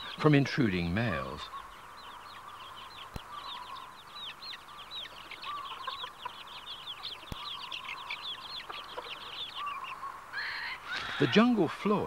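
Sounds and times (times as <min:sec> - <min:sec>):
chicks cheeping: 0:00.0 - 0:12.0
hen calling: 0:00.0 - 0:12.0.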